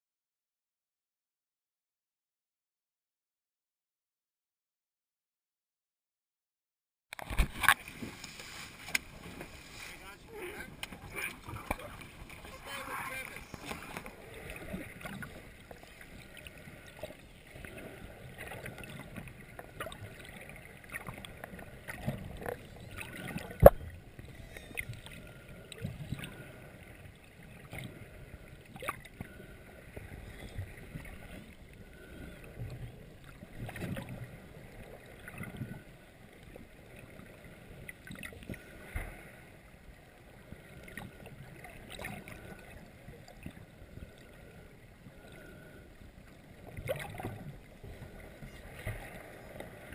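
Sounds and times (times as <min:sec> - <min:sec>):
underwater wash of water: 0:07.2 - 0:49.9.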